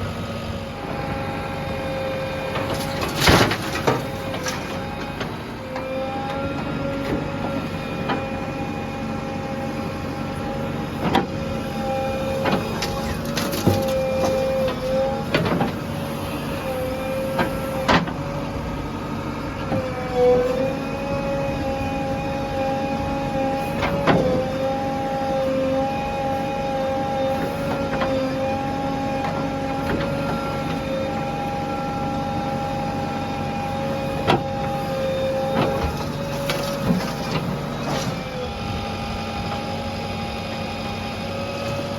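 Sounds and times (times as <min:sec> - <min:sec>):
heavy machinery running: 0:00.0 - 0:41.9.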